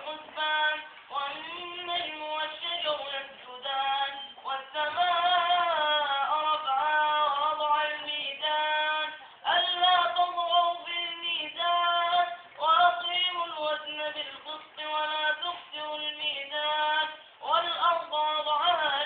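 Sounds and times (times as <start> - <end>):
boy chanting recitation: 0.0 - 19.0.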